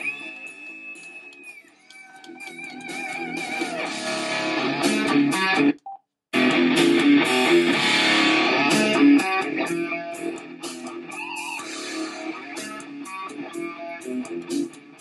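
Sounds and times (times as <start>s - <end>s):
guitar music through small speaker: 0.0s - 5.8s, 6.4s - 15.0s.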